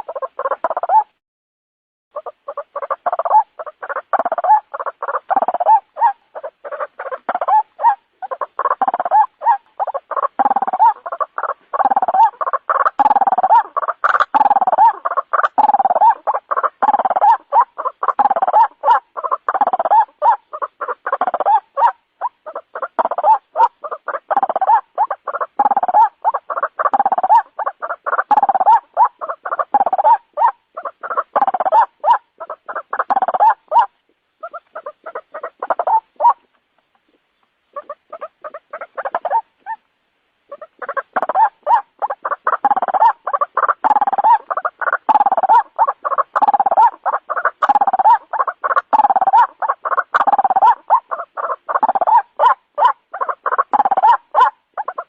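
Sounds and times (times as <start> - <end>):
waterhen croaking calls: 0.0 - 1.2, 2.1 - 55.0.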